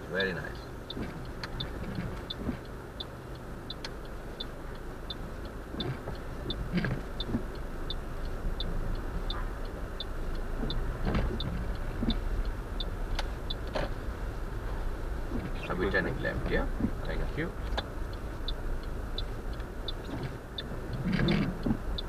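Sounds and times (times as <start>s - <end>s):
engine and tyre drone: 0.0s - 22.0s
turn signal ticking: 0.0s - 22.0s.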